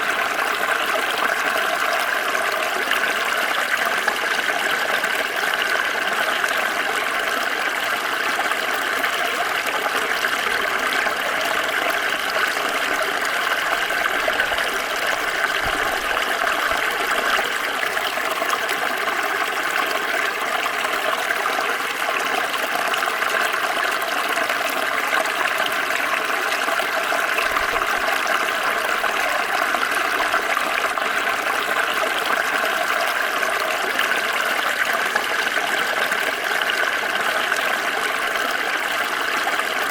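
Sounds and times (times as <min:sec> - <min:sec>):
small stream flowing and trickling: 0:00.0 - 0:39.9.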